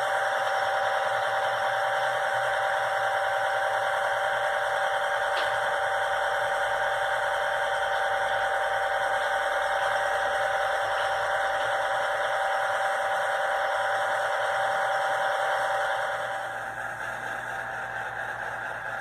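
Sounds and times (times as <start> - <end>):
model train cars rolling on track: 0.0 - 19.0
model train diesel engine sound: 0.0 - 19.0.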